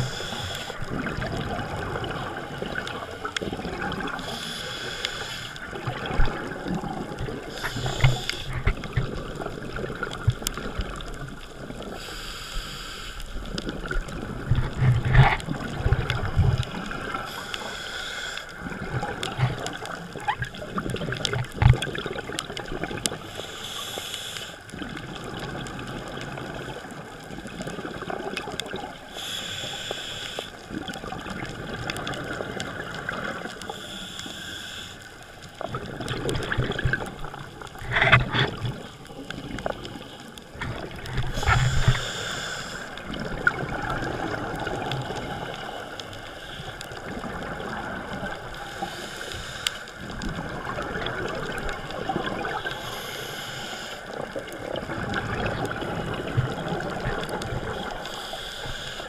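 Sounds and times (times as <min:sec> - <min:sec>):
diver regulator breathing: 0:00.0 - 0:01.2, 0:02.5 - 0:06.6, 0:07.3 - 0:11.0, 0:11.8 - 0:20.6, 0:23.0 - 0:25.5, 0:28.6 - 0:30.7, 0:32.0 - 0:54.8, 0:56.0 - 0:59.0
bubbly hiss: 0:00.0 - 0:35.0, 0:35.6 - 0:59.0
rush of water: 0:00.0 - 0:59.0.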